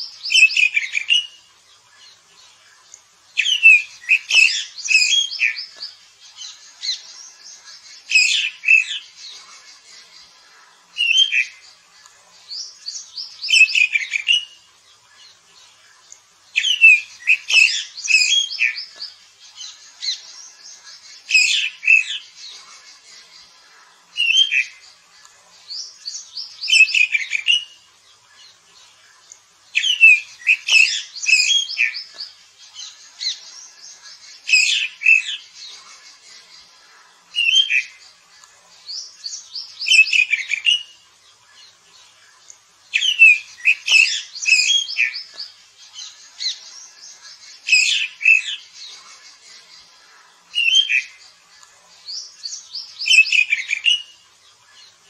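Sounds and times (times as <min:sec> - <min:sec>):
bird singing trilling phrases: 0:00.0 - 0:55.0.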